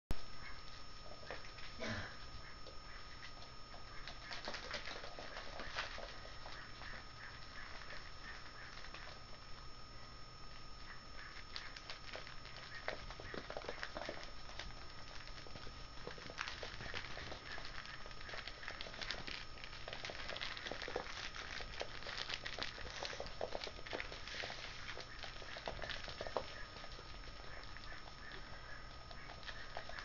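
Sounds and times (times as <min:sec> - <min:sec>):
puppy claws scrabbling on wooden floor: 0:03.2 - 0:09.2, 0:11.5 - 0:30.0.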